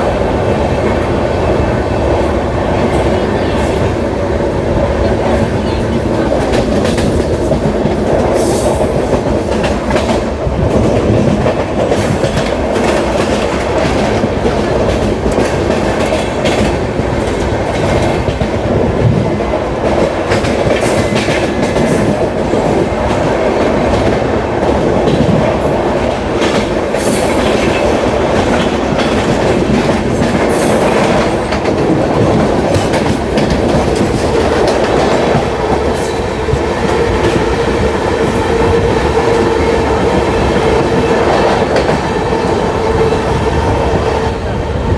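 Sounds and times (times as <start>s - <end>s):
train wheels clattering: 0.0s - 44.9s.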